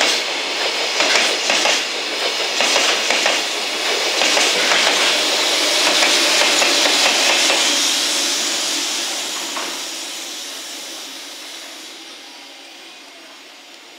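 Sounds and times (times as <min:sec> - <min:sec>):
freight train passing: 0:00.0 - 0:13.9.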